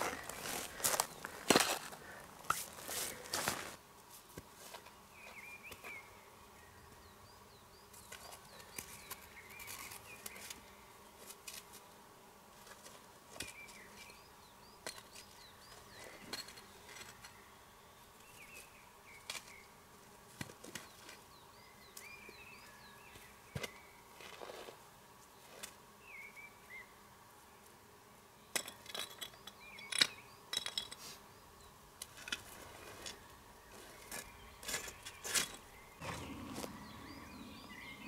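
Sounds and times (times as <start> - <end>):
small birds chirping: 0.0 - 3.8, 4.8 - 11.2, 13.3 - 19.8, 20.7 - 27.7, 28.4 - 38.0.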